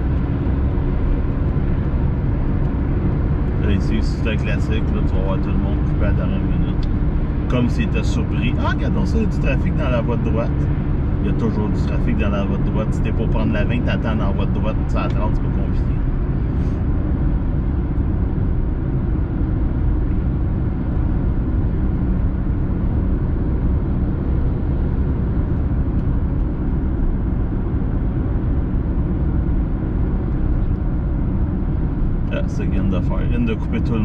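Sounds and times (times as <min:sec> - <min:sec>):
car road noise drone: 0:00.0 - 0:34.0.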